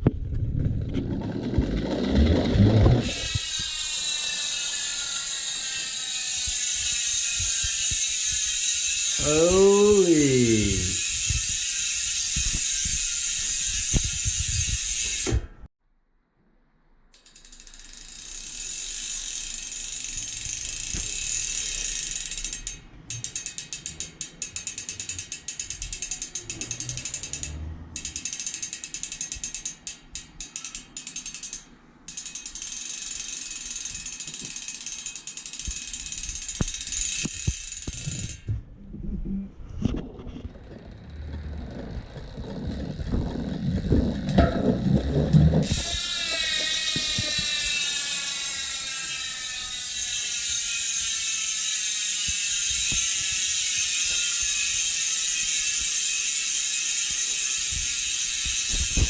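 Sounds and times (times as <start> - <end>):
bicycle hub freewheeling buzz: 0.5 - 15.7, 17.2 - 38.5, 40.7 - 59.0.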